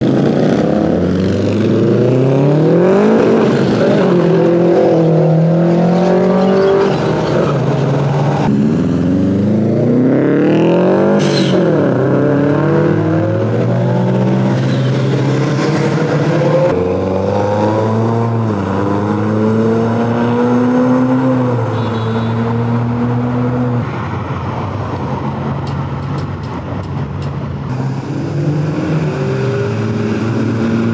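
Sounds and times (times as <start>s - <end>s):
car engines revving and accelerating: 0.0s - 30.9s.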